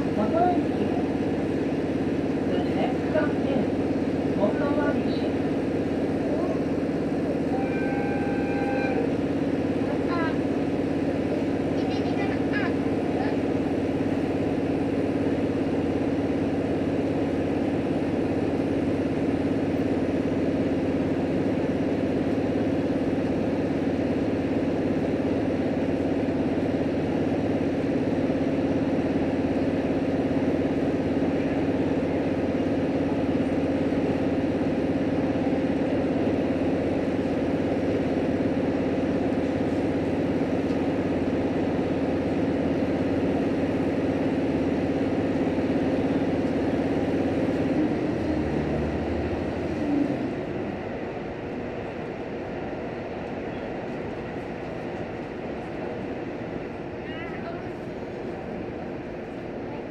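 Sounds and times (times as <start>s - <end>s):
railcar diesel engine droning: 0.0s - 59.9s.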